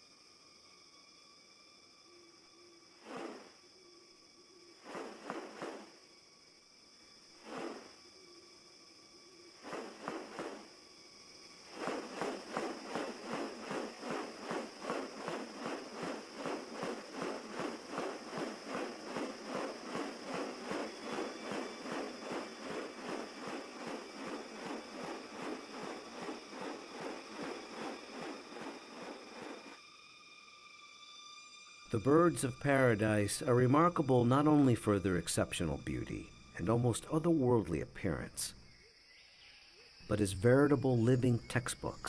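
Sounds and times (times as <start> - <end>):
high insect drone: 0.0 - 42.0.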